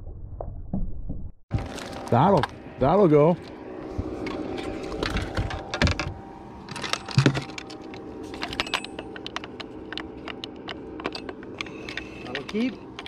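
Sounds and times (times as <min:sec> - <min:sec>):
faint steady hum: 0:01.6 - 0:13.0.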